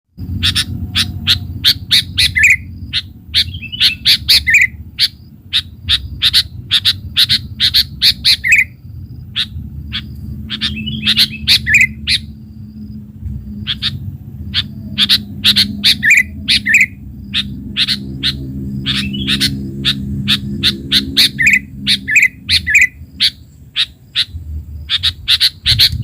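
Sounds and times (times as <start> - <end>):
low steady rumble: 0.2 - 26.0
bird chip notes and bubbling calls: 0.4 - 8.8, 9.4 - 12.3, 13.6 - 24.3.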